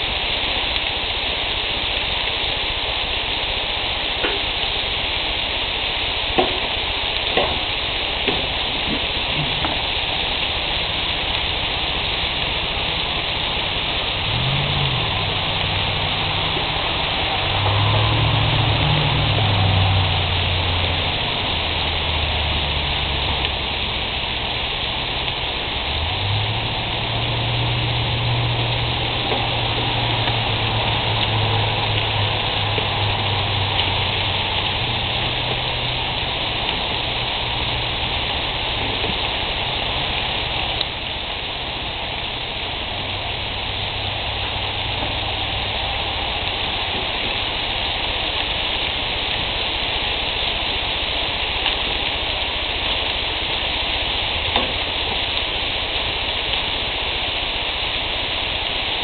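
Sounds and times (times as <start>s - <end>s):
meat sizzling on a grill: 0.0s - 59.0s.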